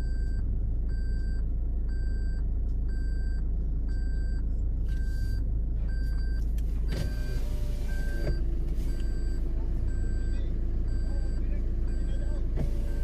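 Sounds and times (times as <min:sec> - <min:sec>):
off-road vehicle engine idling: 0:00.0 - 0:13.0.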